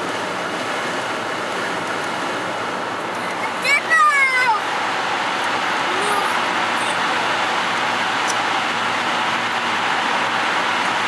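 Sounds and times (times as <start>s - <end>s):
car driving through tunnel: 0.0s - 11.0s.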